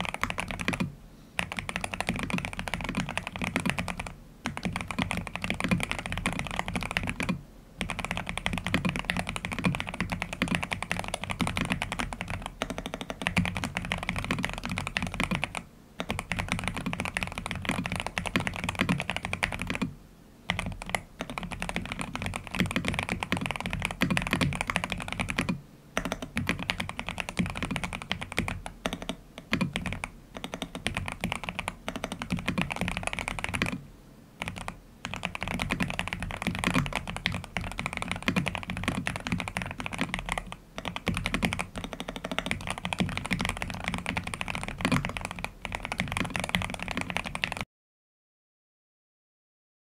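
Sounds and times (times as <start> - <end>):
fast mechanical keyboard typing: 0.0 - 19.9, 20.5 - 33.8, 34.4 - 47.7.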